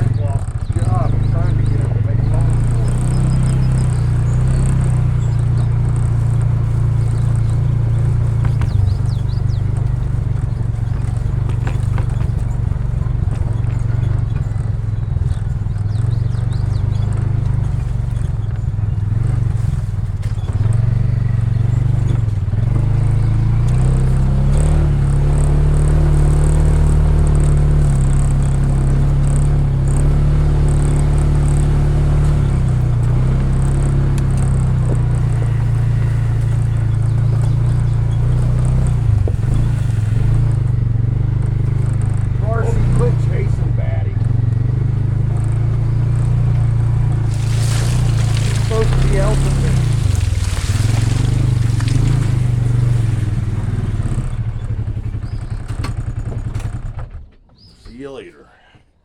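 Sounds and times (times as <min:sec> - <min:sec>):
vehicle engine running: 0:00.0 - 0:58.7.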